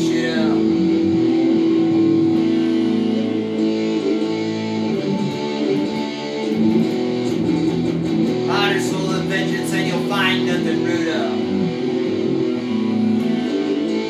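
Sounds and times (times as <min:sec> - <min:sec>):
electric guitar chords and notes: 0:00.0 - 0:14.0.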